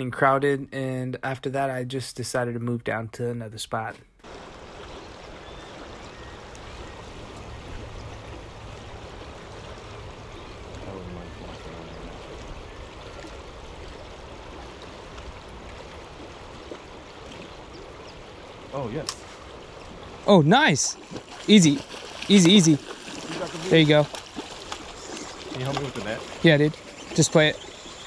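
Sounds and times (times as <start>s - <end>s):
river water rushing: 4.2s - 28.0s.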